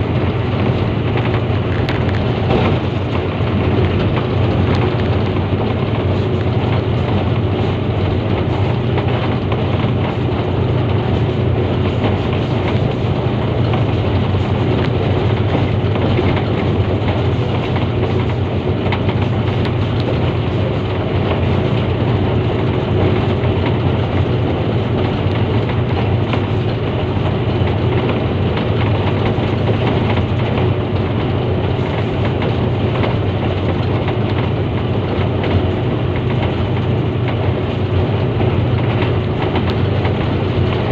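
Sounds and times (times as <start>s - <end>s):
diesel engine drone: 0.0s - 40.9s
wheels rushing on rails: 0.0s - 40.9s.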